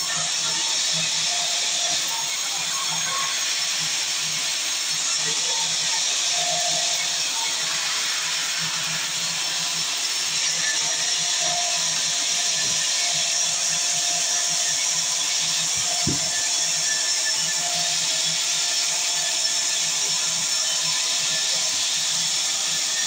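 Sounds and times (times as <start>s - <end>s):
sawmill saw hissing: 0.0s - 23.0s.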